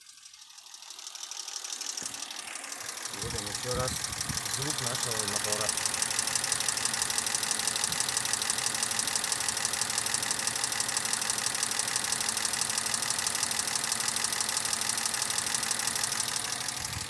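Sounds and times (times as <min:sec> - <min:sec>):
car engine idling with knocking: 0:00.0 - 0:17.0.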